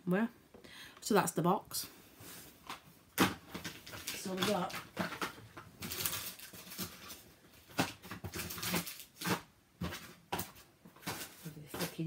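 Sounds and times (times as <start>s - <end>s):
hands rummaging through packaging: 2.2s - 12.0s.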